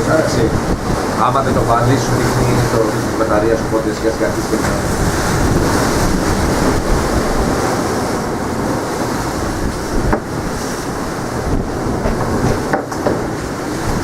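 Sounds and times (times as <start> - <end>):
sea surf washing: 0.0 - 14.0
steady rumbling noise: 0.0 - 14.0
wind buffeting microphone: 0.0 - 14.0.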